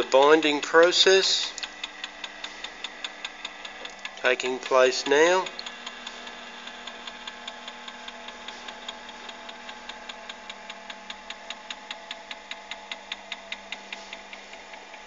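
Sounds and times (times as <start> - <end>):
binding machine motor hum: 0.0 - 15.0
sharp mechanical ticking: 0.0 - 15.0.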